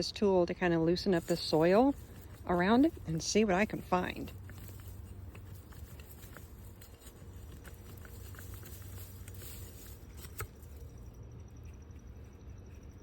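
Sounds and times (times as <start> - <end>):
garden tool scraping soil: 0.0 - 11.0.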